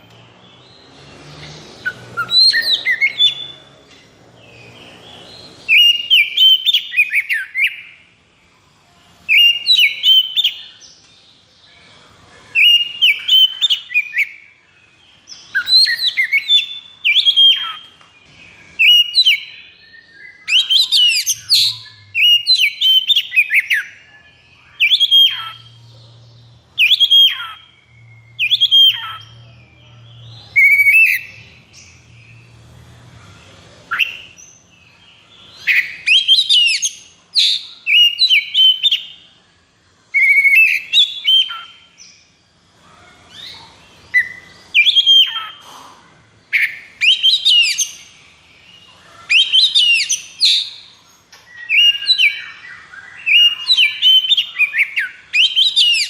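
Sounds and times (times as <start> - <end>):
songbird whistling song: 0.0 - 8.3, 9.1 - 42.3, 43.3 - 45.9, 46.5 - 56.0.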